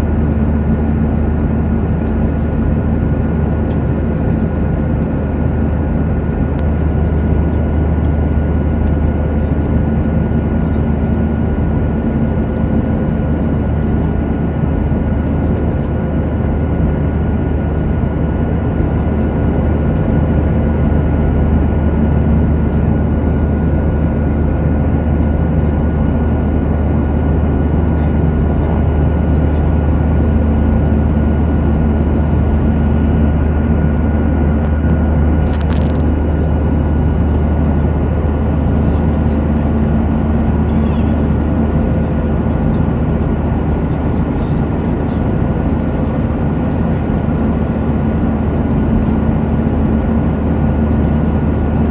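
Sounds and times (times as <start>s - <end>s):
aircraft cabin engine noise: 0.0s - 51.9s.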